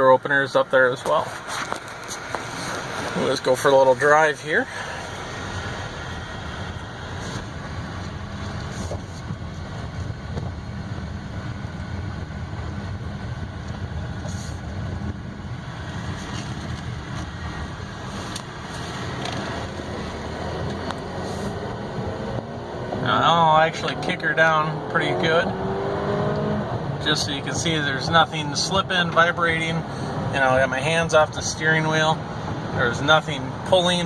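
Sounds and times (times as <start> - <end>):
road and engine rumble in car: 0.0 - 34.0.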